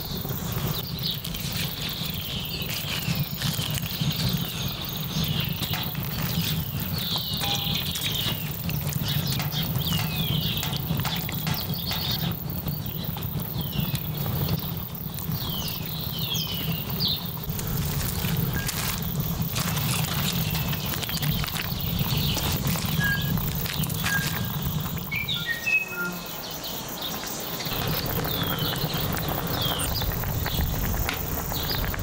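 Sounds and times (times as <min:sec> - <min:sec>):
low fire rumble: 0:00.0 - 0:25.3, 0:26.8 - 0:32.0
food cooking with pops and crackles: 0:00.0 - 0:25.5, 0:27.2 - 0:32.0
birds whistling: 0:00.0 - 0:32.0.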